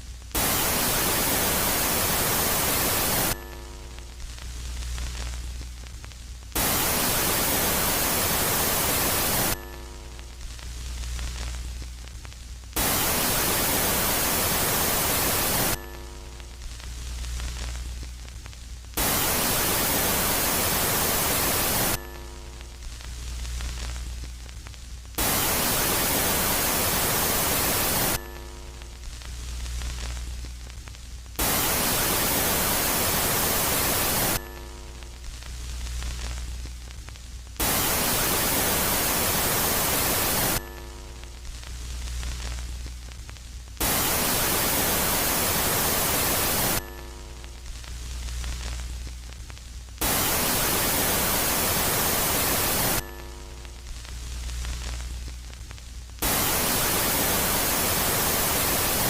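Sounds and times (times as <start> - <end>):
bursts of harsh static: 0.0 - 59.0.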